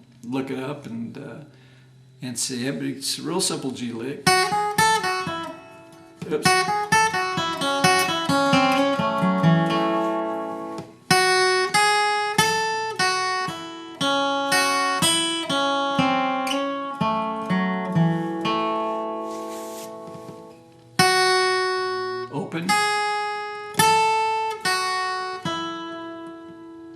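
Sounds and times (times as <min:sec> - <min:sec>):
acoustic guitar flatpicking: 0:04.2 - 0:26.9.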